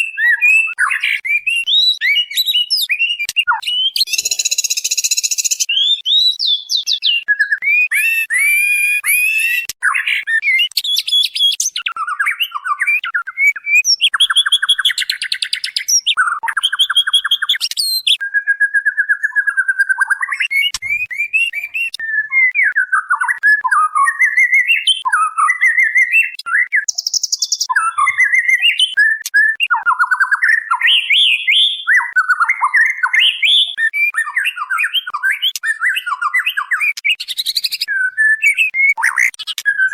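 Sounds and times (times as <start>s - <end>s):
bird whistled calls: 0.0s - 39.9s.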